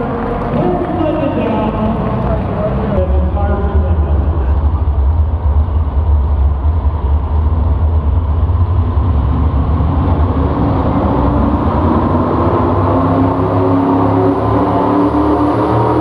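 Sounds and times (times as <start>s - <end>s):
loud vehicle engine rumbling: 0.0s - 16.0s.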